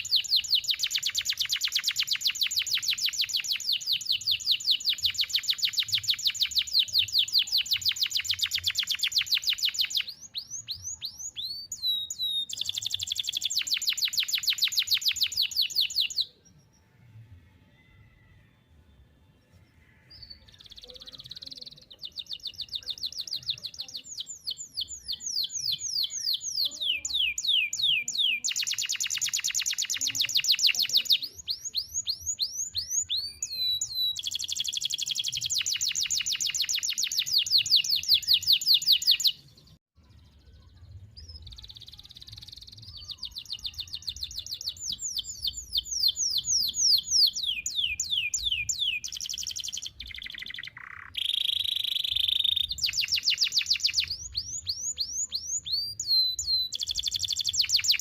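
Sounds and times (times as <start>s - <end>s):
canary singing trills: 0.0s - 17.0s, 17.7s - 58.0s.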